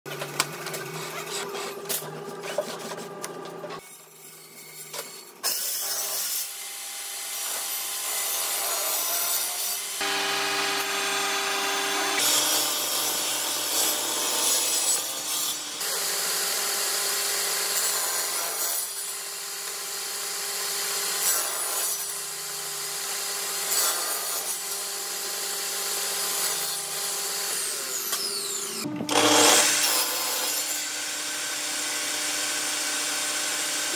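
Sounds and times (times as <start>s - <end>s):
table saw cutting wood: 0.1s - 33.9s.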